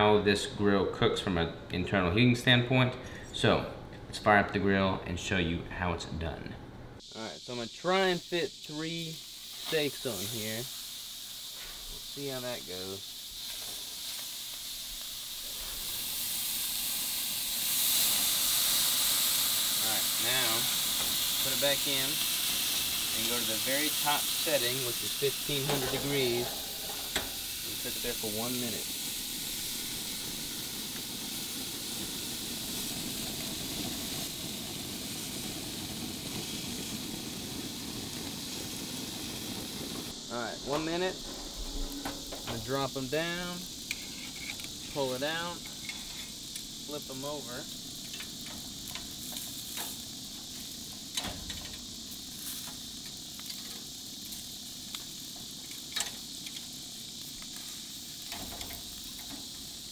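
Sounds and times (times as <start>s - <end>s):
gas grill hissing: 0.0s - 6.4s, 7.0s - 59.9s
steaks searing: 7.0s - 59.9s.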